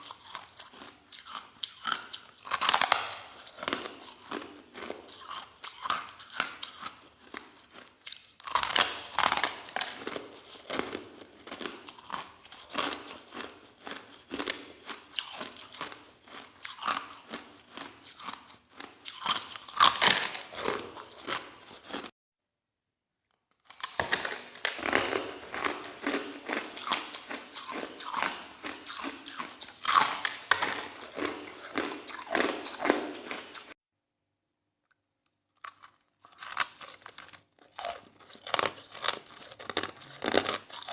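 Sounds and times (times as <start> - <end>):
chewing crushed ice: 0.0 - 22.1, 23.5 - 33.8, 35.3 - 40.9.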